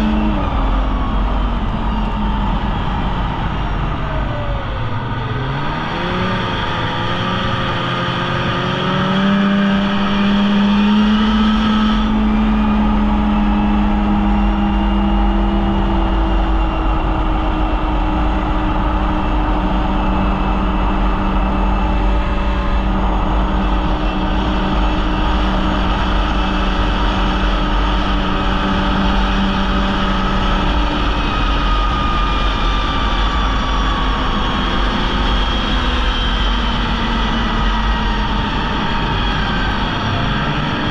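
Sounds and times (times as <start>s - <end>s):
constant rushing noise: 0.0s - 40.9s
snowmobile engine running: 0.0s - 40.9s.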